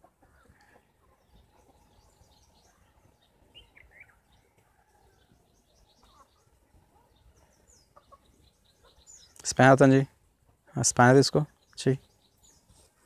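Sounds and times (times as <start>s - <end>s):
faint bird chirps: 0.2s - 9.8s, 10.6s - 13.0s.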